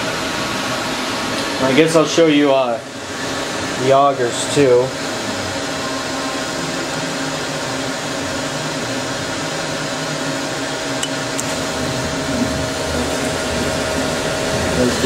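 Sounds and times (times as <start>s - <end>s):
machining center whirring hum: 0.0s - 15.0s.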